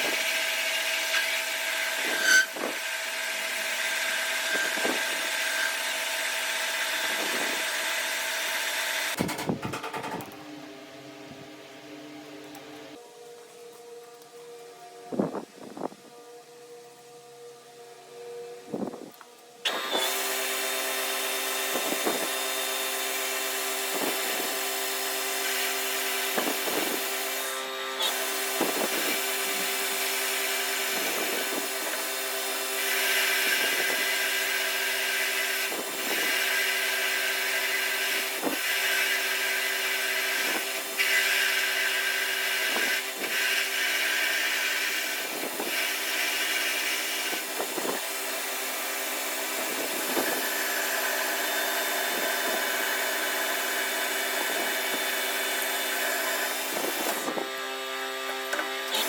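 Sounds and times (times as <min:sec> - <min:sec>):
power tool motor hum: 0:00.0 - 0:10.7, 0:19.6 - 0:59.0.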